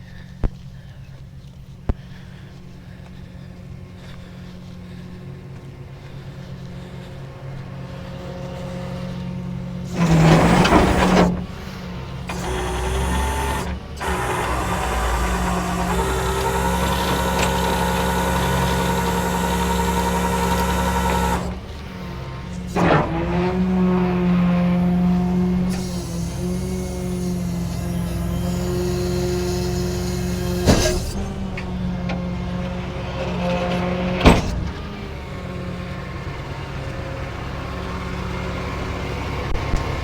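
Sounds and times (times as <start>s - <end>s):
tow truck engine running: 0.1s - 40.0s.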